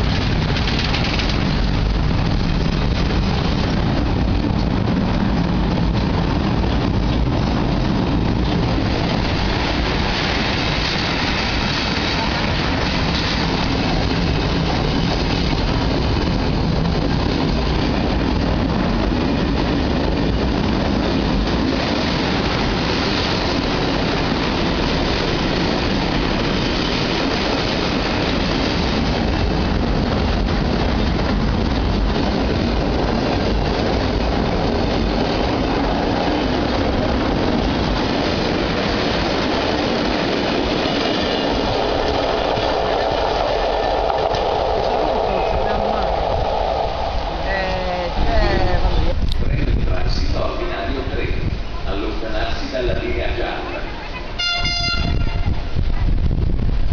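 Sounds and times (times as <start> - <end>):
train wheels running on rails: 0.0 - 56.9.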